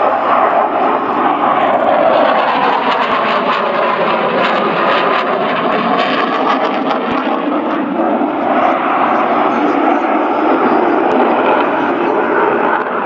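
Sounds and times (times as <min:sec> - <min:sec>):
faint jet crackle: 0:00.0 - 0:13.0
jet engine roar: 0:00.0 - 0:13.0.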